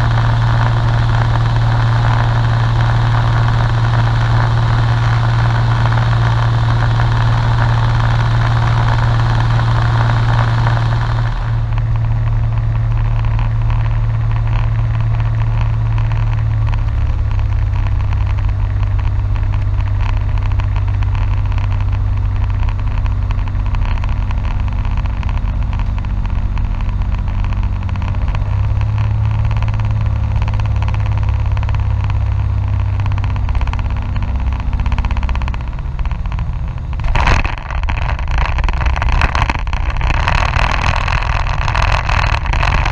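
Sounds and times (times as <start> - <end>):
light aircraft engine droning: 0.0 - 39.5.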